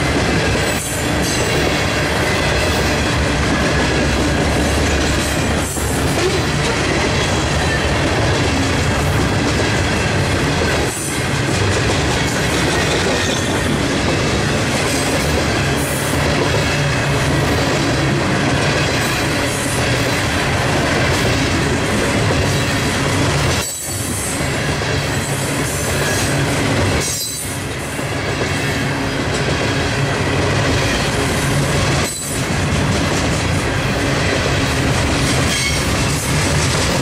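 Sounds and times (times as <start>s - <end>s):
freight train wheels on rails: 0.0s - 37.0s.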